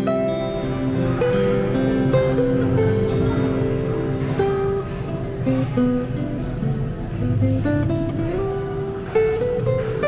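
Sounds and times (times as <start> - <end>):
acoustic guitar melody: 0.0 - 10.0.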